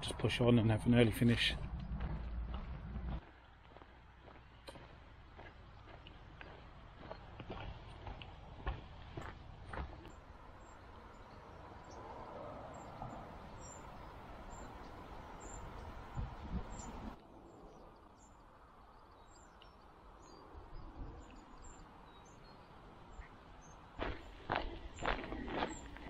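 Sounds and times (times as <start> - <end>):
small birds chirping: 0.0 - 12.1, 12.7 - 26.0
faint outdoor hiss: 3.4 - 25.2.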